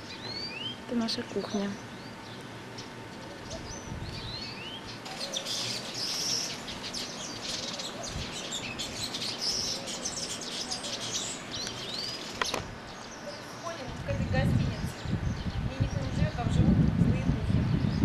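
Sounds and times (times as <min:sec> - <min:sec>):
small birds chirping and twittering: 0:00.0 - 0:18.0.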